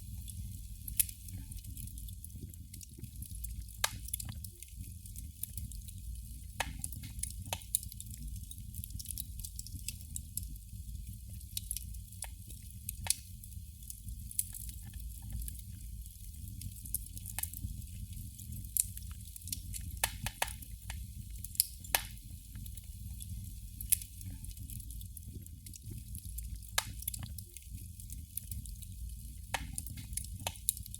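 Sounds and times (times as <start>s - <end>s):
candle flame crackling: 0.0s - 30.9s.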